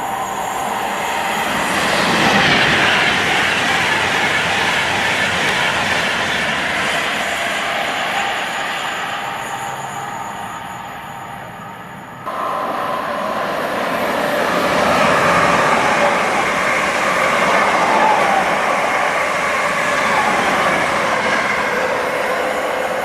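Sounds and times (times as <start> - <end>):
train passing close by: 0.0 - 23.0.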